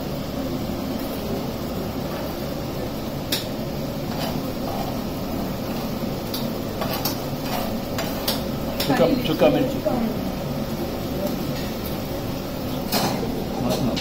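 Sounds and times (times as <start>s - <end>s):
kitchen equipment humming: 0.0s - 14.0s.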